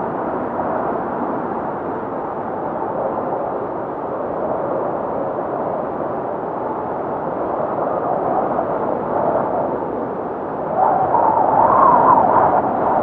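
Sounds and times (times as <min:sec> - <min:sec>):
blizzard wind blowing: 0:00.0 - 0:13.0.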